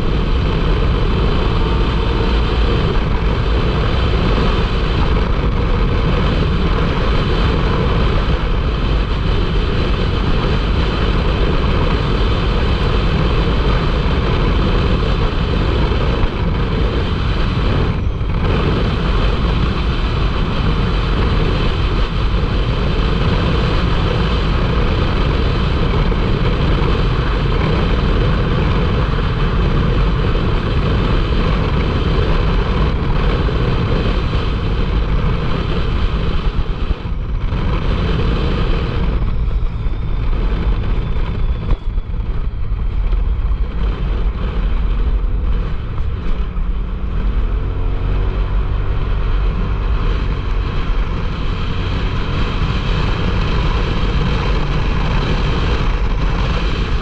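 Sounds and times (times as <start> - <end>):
road noise: 0.0 - 57.0
utility vehicle engine running: 0.0 - 57.0
wind noise: 0.0 - 57.0.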